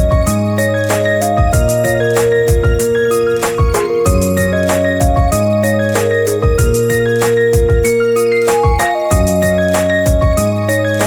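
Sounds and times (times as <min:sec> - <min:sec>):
synth music with beat: 0:00.0 - 0:11.0.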